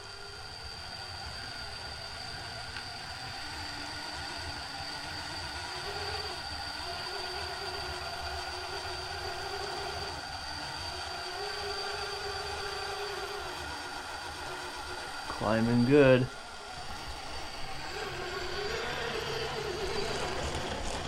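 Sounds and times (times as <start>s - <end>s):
electric motor and drivetrain whining: 0.0s - 21.0s.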